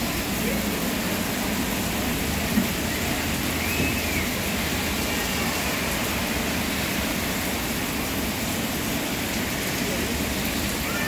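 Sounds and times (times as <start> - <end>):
heavy rain on cars and tarmac: 0.0 - 11.0.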